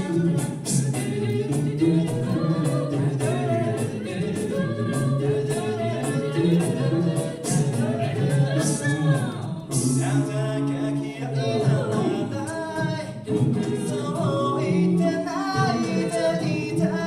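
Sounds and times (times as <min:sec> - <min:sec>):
bass voice singing: 0:00.0 - 0:17.0
group singing in harmony: 0:00.0 - 0:17.0
vocal percussion beat: 0:00.0 - 0:17.0.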